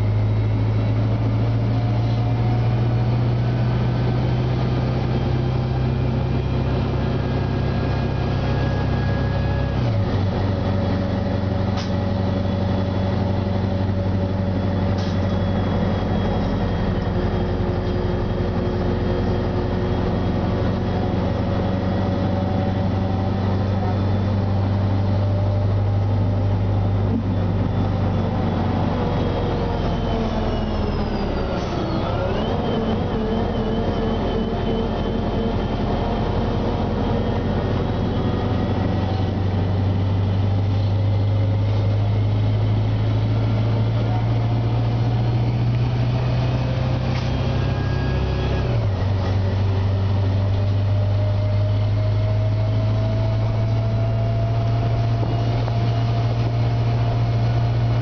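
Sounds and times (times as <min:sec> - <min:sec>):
bus engine drone: 0:00.0 - 0:58.0
whining transmission tones: 0:04.3 - 0:58.0.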